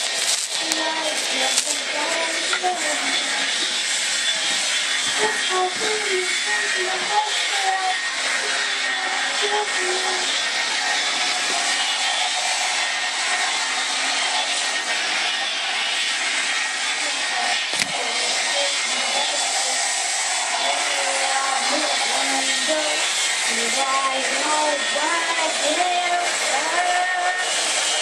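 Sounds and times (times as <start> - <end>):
loud rushing hiss: 0.0 - 28.0.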